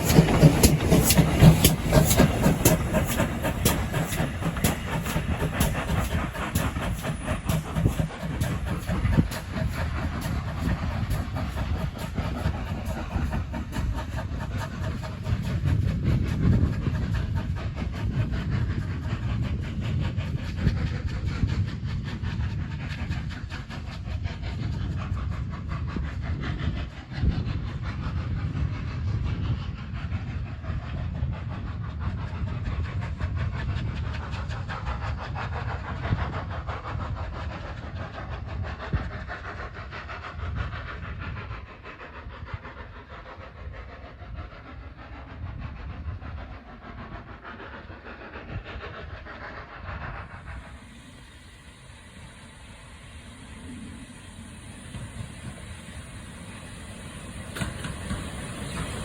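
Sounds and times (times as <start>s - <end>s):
train wheels rattling on track: 0.0s - 59.0s.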